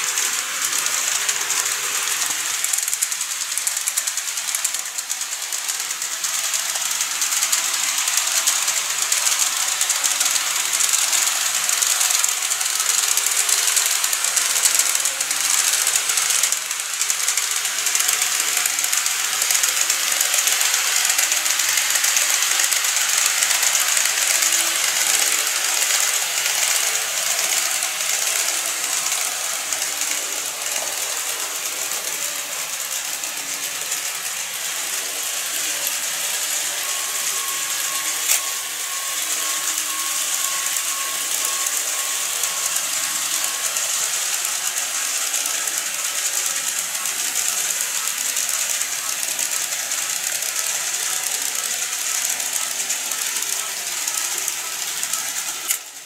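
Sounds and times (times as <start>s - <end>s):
model train whirring and rattling: 0.0s - 56.0s.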